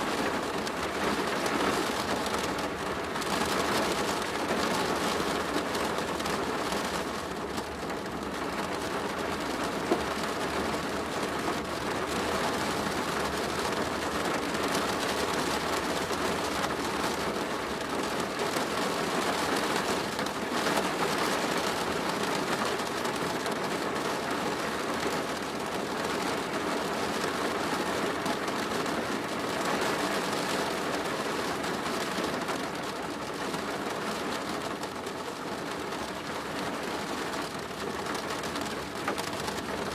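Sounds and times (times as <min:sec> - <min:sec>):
rain drumming on plastic roof: 0:00.0 - 0:39.9.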